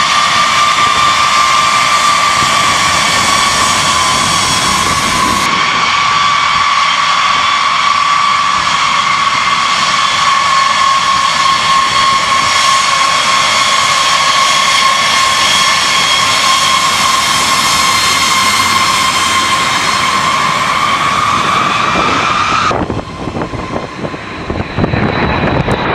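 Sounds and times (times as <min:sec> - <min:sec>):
jet engine roaring and whining: 0:00.0 - 0:25.9.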